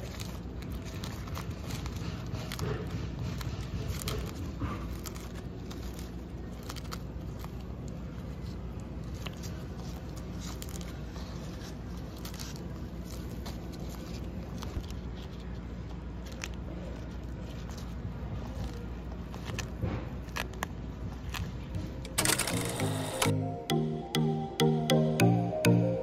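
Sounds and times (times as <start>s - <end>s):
tortoises crunching leaves: 0.0s - 22.0s.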